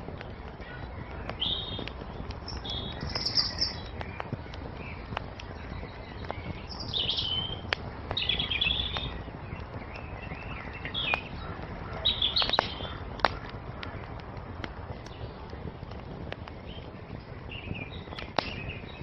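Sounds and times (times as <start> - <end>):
songbirds chirping: 0.0 - 19.0
wood fire crackling: 0.0 - 19.0.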